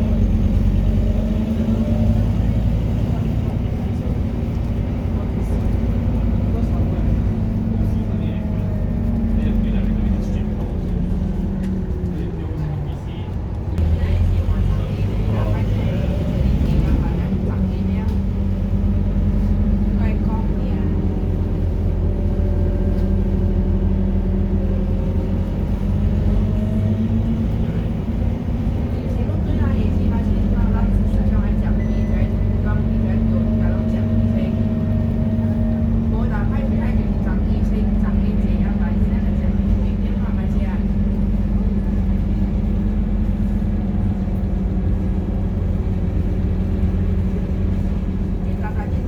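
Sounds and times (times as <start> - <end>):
bus diesel engine droning: 0.0 - 49.0.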